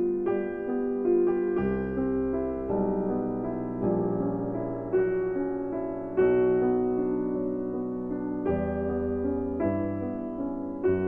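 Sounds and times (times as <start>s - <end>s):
slow gentle piano music: 0.0s - 11.0s.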